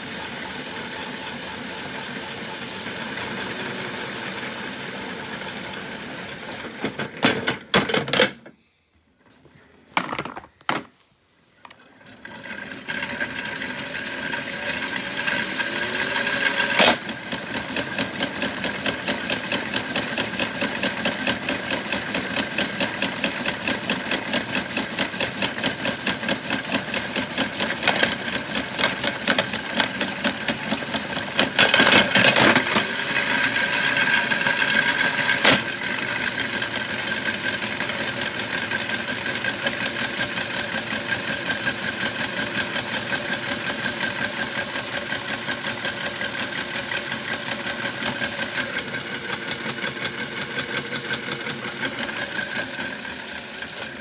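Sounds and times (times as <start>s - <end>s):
toy washing machine motor: 0.0s - 8.4s, 11.7s - 54.0s.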